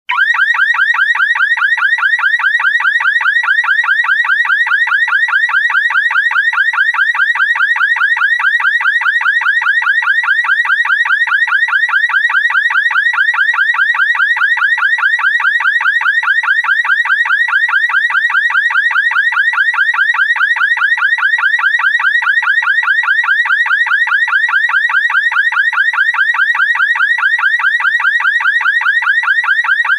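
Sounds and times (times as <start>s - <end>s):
car alarm siren warbling: 0.1s - 29.9s.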